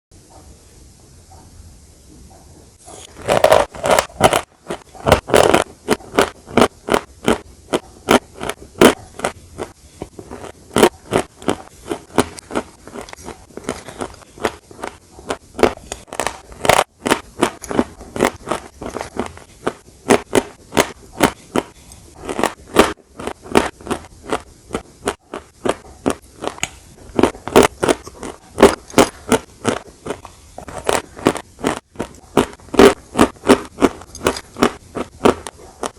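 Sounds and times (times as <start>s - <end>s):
crunchy dessert being chewed: 2.8s - 35.9s.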